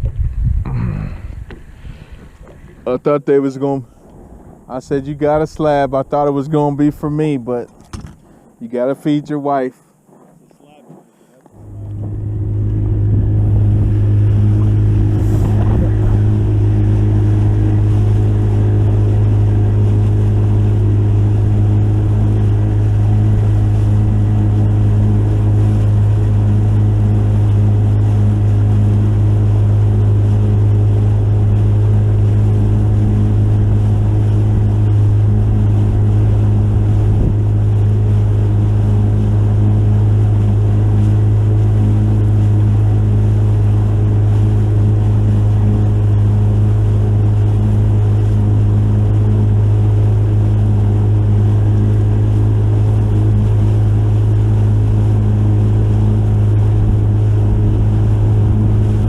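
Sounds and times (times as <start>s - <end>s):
boat motor droning: 0.0s - 59.0s.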